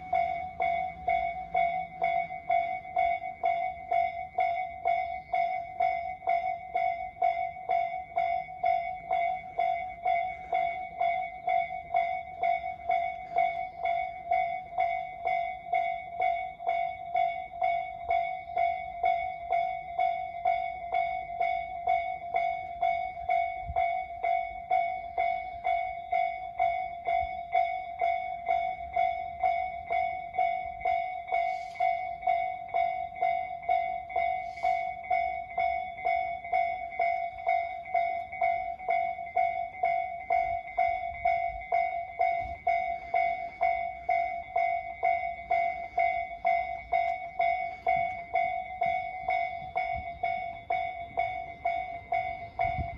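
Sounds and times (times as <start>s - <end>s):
level crossing warning bell ringing: 0.0s - 52.9s.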